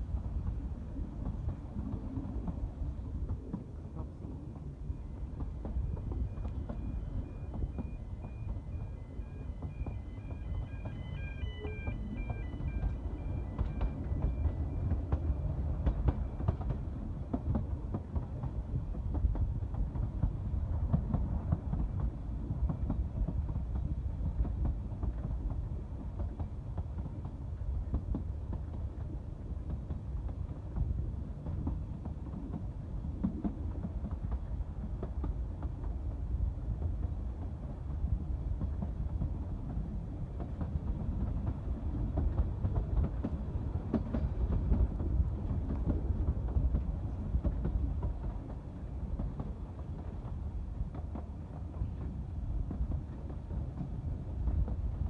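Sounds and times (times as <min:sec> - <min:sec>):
railway carriage rumble: 0:00.0 - 0:55.0.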